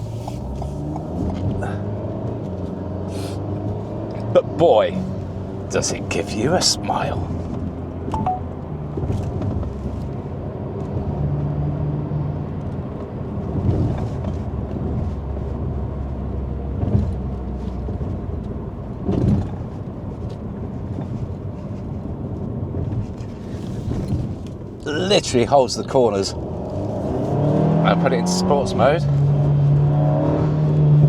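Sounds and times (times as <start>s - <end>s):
car engine running on the move: 0.0s - 31.0s
road noise: 0.0s - 31.0s.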